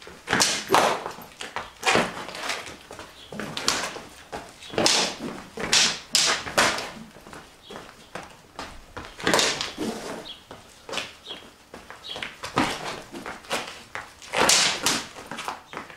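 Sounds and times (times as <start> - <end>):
feet scuffing on concrete: 0.0 - 15.9
sparring sticks clacking: 0.0 - 15.9.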